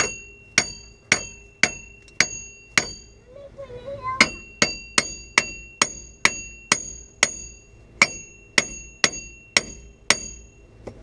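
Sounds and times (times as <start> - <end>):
hammer striking metal: 0.0 - 3.2, 4.2 - 11.0.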